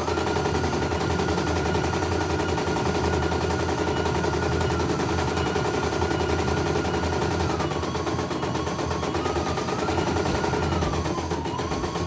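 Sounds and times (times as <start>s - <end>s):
embroidery machine needle chatter: 0.0s - 12.0s
thin steady whine: 0.0s - 12.0s.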